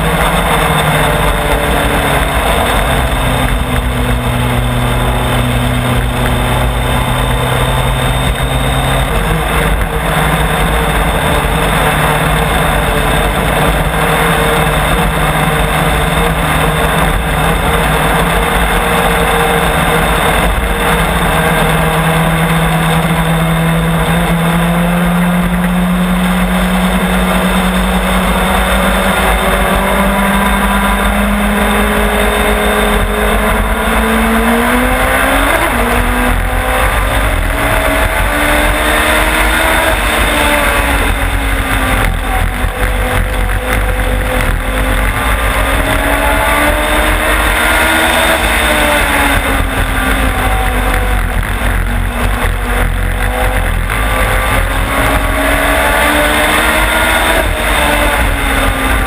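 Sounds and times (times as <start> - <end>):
race car engine running: 0.0 - 59.0
road noise: 0.0 - 59.0
wind noise: 0.0 - 59.0.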